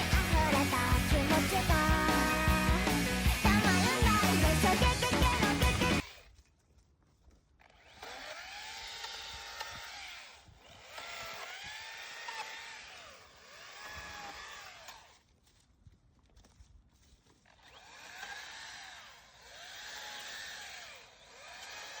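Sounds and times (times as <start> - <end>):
electric chainsaw motor whining: 0.0 - 6.5, 7.6 - 15.2, 17.4 - 22.0.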